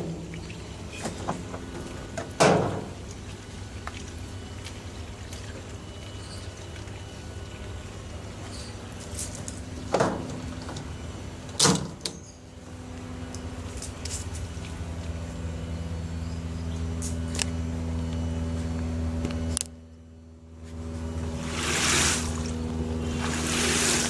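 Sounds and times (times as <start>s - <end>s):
washing machine motor hum: 0.0s - 11.6s, 12.2s - 24.0s.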